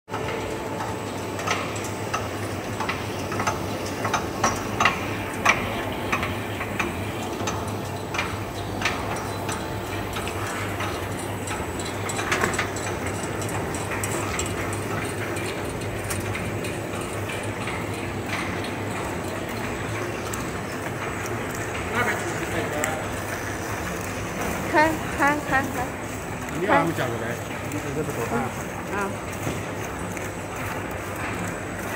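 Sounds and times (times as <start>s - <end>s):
low machine hum: 0.1s - 31.9s
machine parts clicking and knocking: 1.4s - 31.9s.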